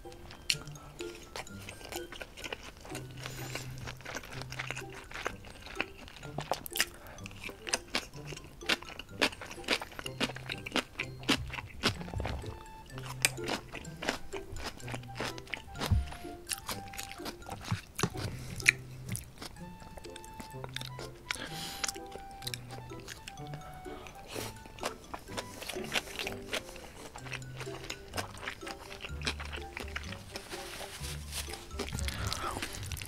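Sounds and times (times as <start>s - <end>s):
close chewing with wet crunches: 0.0s - 33.0s
soft background music: 0.0s - 33.0s.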